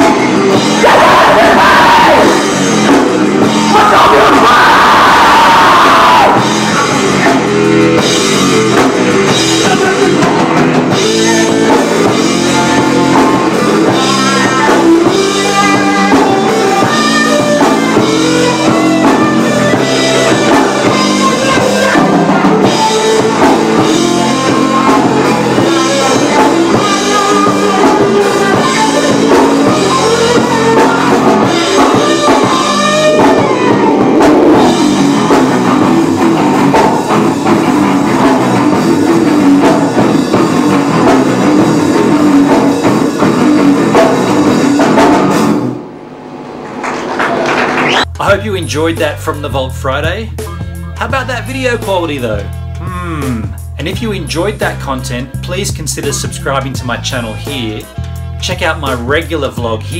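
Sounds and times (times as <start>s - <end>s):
drum kit: 0.0s - 46.0s, 46.6s - 59.9s
guitars: 0.0s - 59.9s.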